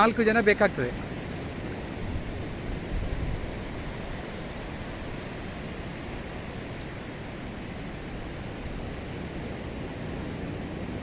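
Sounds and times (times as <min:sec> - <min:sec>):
sea surf breaking on shore: 0:00.0 - 0:11.0.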